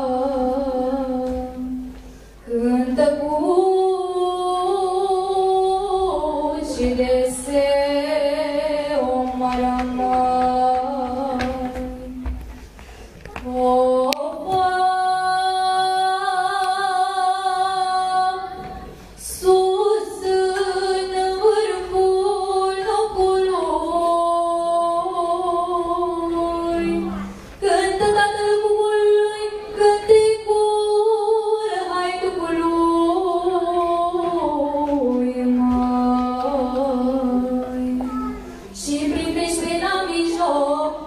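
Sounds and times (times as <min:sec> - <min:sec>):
girl singing unaccompanied: 0:02.5 - 0:12.4, 0:13.2 - 0:41.0.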